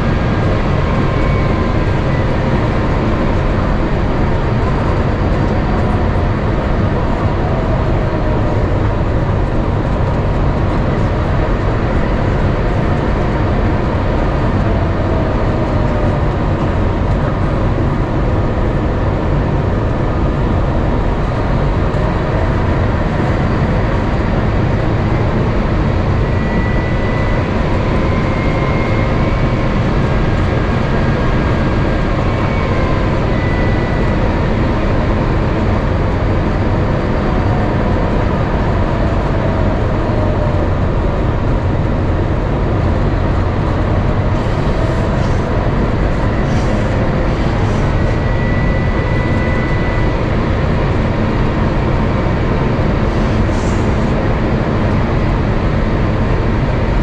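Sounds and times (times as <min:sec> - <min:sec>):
airplane cabin airflow and engine noise: 0:00.0 - 0:57.0
faint engine whine: 0:00.0 - 0:57.0.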